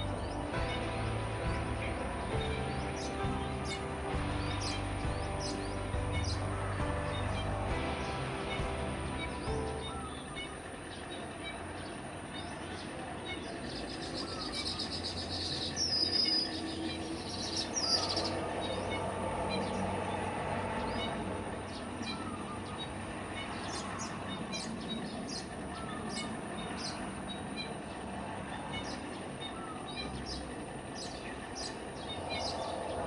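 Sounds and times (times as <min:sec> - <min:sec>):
noisy background: 0:00.0 - 0:33.0
weaver birds chirping: 0:00.0 - 0:33.0.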